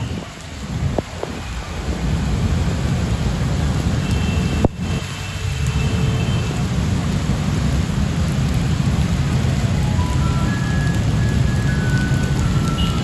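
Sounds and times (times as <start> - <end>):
heavy rain: 0.0 - 13.0
traffic rumble: 0.0 - 13.0.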